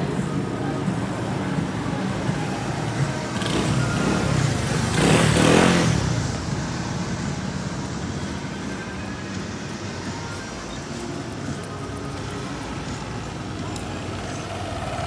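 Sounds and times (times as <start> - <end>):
road vehicle passing close: 0.0 - 15.0
street noise: 0.0 - 15.0.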